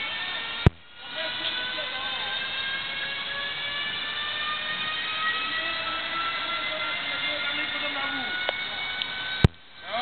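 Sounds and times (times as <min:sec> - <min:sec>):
train rolling past with whine: 0:00.0 - 0:10.0.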